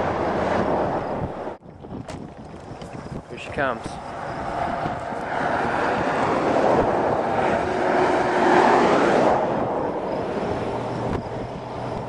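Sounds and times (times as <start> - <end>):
vehicle passing on road: 0.0 - 1.6, 2.3 - 12.0.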